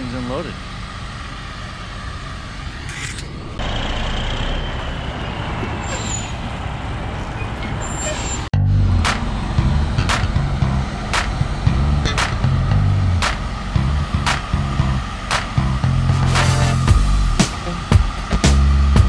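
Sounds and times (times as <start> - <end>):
crane engine running loud: 0.0 - 7.9, 8.6 - 19.0
diesel truck engines rumbling: 0.0 - 19.0.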